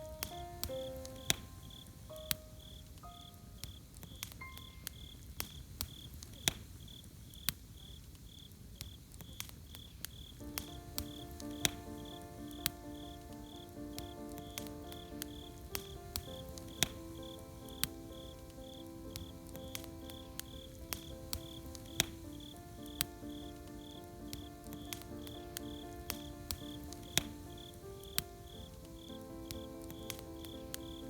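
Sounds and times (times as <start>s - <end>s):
soft background music: 0.0s - 5.2s, 10.4s - 31.0s
campfire crackling and popping: 0.0s - 31.0s
crickets chirping: 0.0s - 31.0s.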